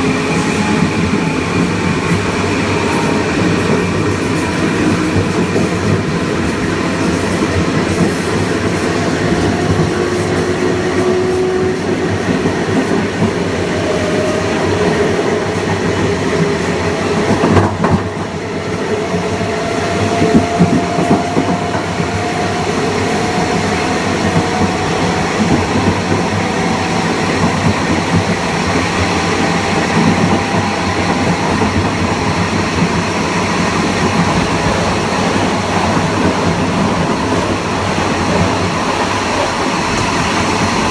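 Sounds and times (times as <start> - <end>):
train motor whine: 0.0 - 40.9
wheel and rail noise: 0.0 - 40.9.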